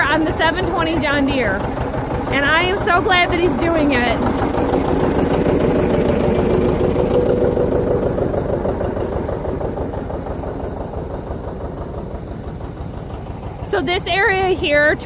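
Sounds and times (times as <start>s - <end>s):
steady high whine: 0.0s - 15.0s
tractor diesel engine pulsing: 0.0s - 15.0s.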